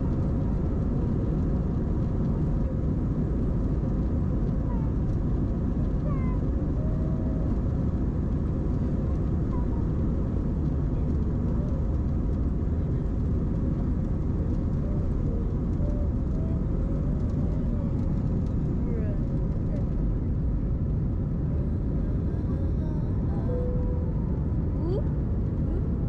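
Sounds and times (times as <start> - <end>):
airliner takeoff rumble: 0.0 - 26.0.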